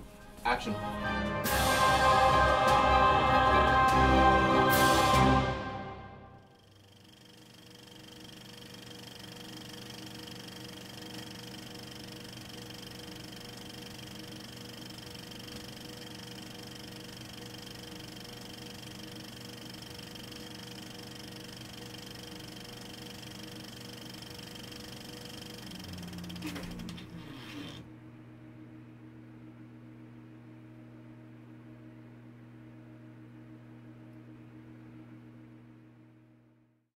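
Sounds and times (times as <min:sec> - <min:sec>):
machine hum: 0:00.0 - 0:36.8.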